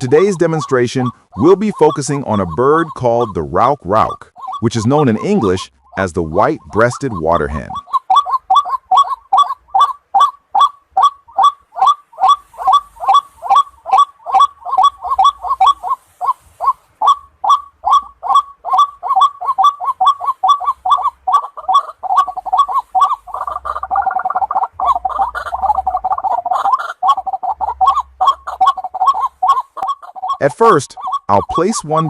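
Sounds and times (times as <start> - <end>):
bird calling short repeated notes: 0.0 - 32.0.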